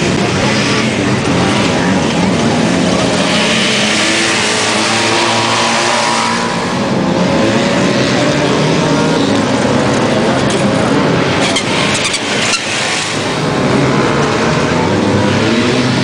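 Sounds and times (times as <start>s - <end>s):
two-stroke race car engines revving: 0.0s - 16.0s.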